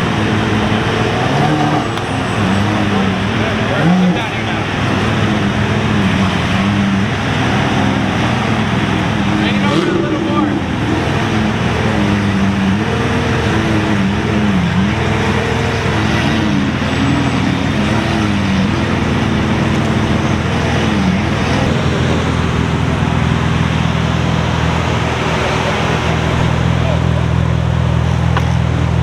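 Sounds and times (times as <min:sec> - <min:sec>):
car engines humming: 0:00.0 - 0:29.0
voices: 0:00.0 - 0:29.0.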